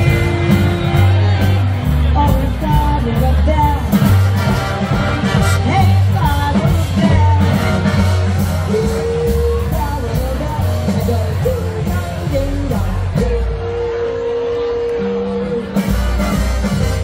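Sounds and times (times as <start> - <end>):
big band playing swing: 0.0 - 17.0
person singing: 0.0 - 17.0.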